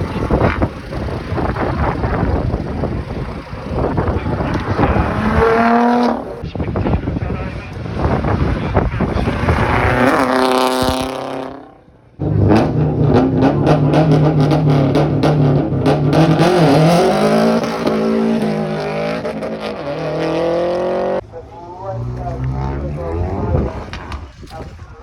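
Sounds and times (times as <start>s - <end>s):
car engine revving: 0.0s - 6.4s, 7.7s - 24.6s
car engines running loudly: 0.0s - 25.0s.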